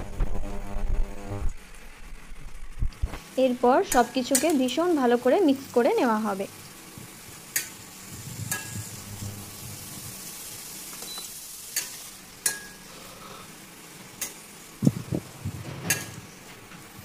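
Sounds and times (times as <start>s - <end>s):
vegetables sizzling in oil: 1.4s - 17.0s.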